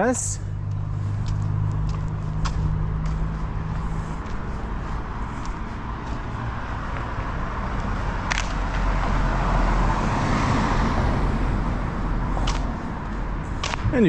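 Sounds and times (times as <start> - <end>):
car passing: 0.0 - 14.0.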